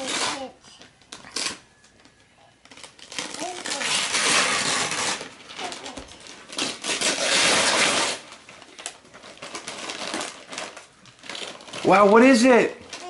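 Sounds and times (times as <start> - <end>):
wrapping paper tearing and rustling: 0.0 - 13.0.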